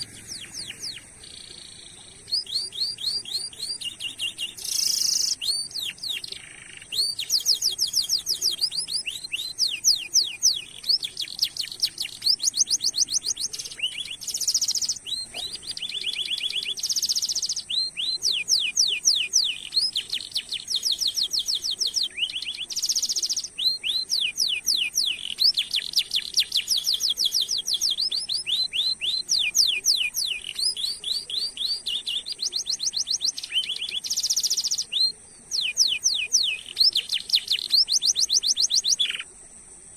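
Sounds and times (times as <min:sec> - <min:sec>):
canary chirps and trills: 0:00.0 - 0:39.3.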